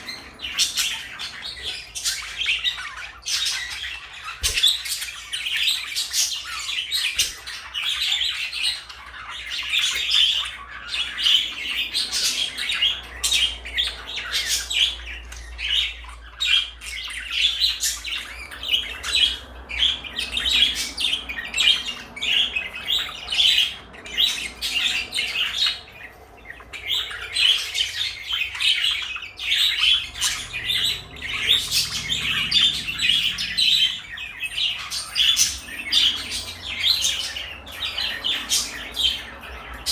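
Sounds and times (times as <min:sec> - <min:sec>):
parakeets chattering and chirping: 0:00.0 - 0:39.9.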